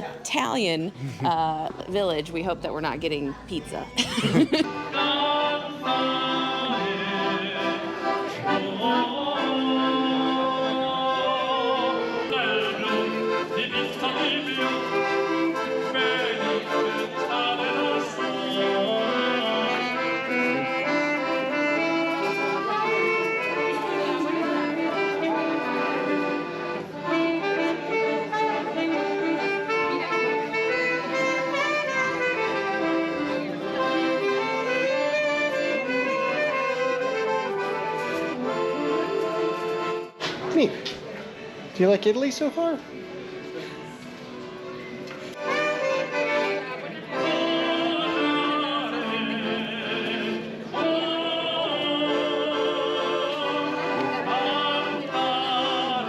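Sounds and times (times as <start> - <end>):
accordion-led music with brass: 0.0 - 40.7, 43.4 - 56.0.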